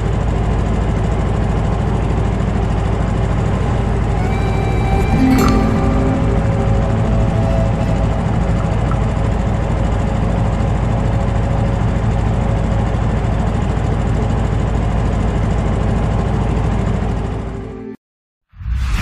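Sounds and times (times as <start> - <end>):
boat motor running: 0.0 - 17.8.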